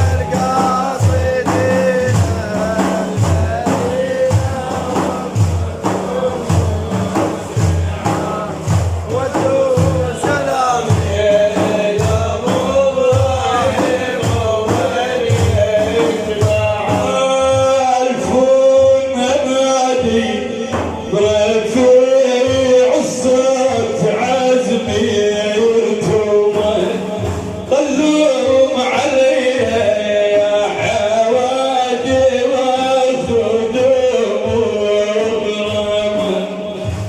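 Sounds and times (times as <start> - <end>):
men chanting: 0.0 - 37.0
steady drum beat: 0.0 - 37.0.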